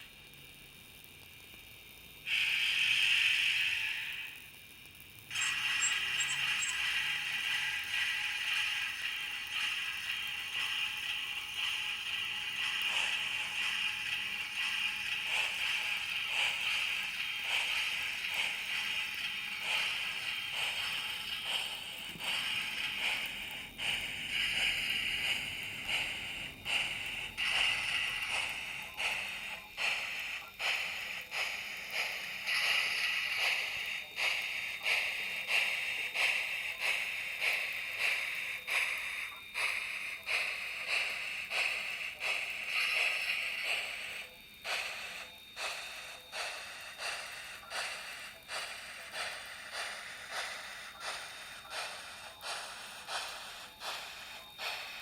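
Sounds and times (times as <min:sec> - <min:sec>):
steady steam hiss: 0:00.0 - 0:55.0
steam locomotive chuffing from speaker: 0:02.2 - 0:04.6, 0:05.2 - 0:55.0.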